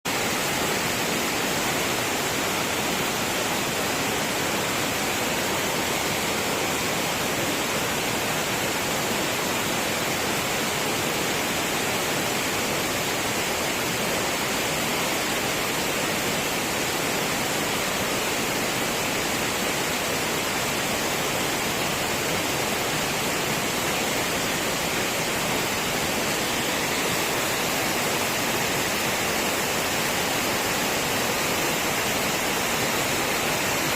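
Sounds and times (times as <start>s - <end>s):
rushing water: 0.1s - 33.9s.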